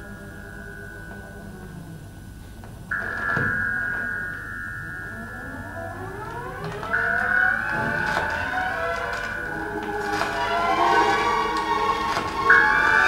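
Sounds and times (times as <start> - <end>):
rising siren-like gliding tones: 0.0 - 13.0
sustained high electronic tone: 0.0 - 13.0.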